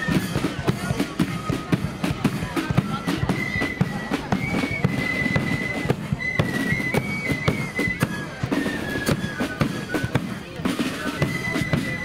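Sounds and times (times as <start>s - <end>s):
cymbals: 0.0s - 12.0s
flutes playing melody: 0.0s - 12.0s
snare drum: 0.0s - 12.0s.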